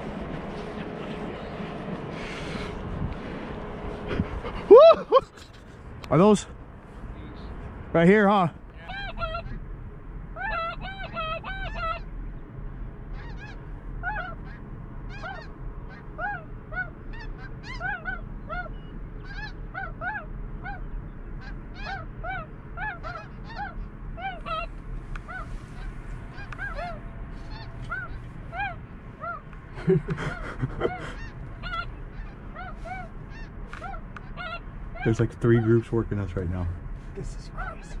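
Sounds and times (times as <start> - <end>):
geese honking overhead: 0.0 - 6.6, 7.4 - 9.7, 10.3 - 38.0.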